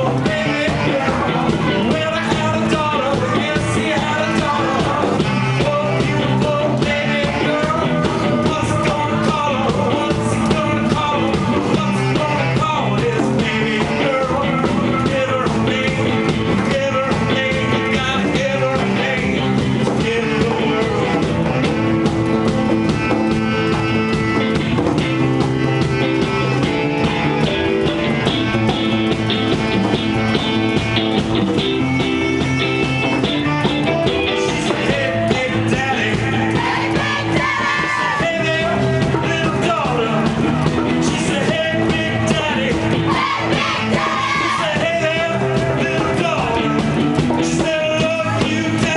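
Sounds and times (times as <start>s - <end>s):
guitar: 0.0s - 48.9s
rock band playing live: 0.0s - 48.9s.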